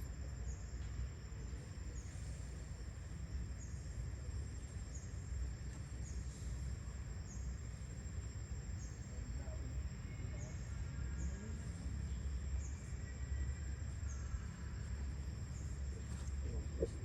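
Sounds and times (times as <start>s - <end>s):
insects droning high whine: 0.0s - 17.0s.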